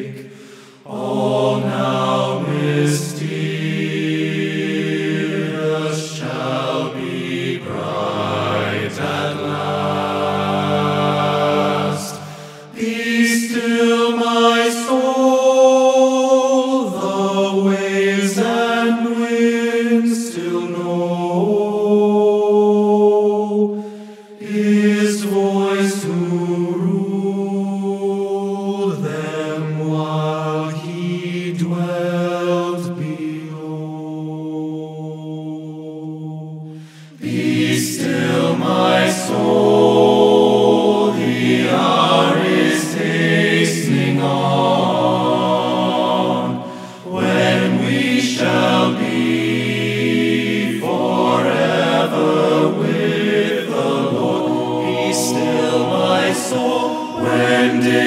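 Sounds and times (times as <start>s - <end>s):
male choir singing a cappella: 0.0s - 58.0s.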